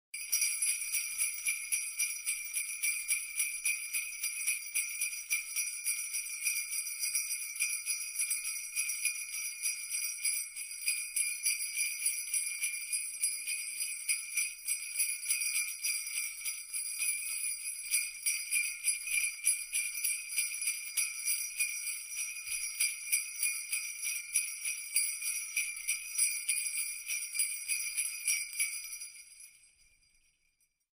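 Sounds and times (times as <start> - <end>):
sleigh bells jingling: 0.2 - 30.9.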